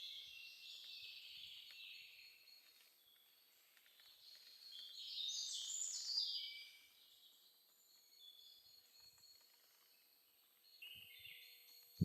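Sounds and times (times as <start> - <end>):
faint woodland background: 0.0 - 12.0
songbird singing: 0.0 - 12.0.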